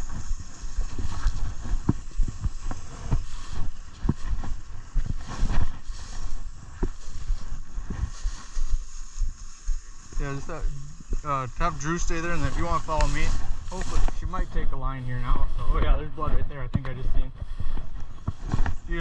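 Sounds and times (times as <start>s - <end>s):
footsteps crunching through undergrowth: 0.0s - 19.0s
wind rumble on microphone: 0.0s - 19.0s.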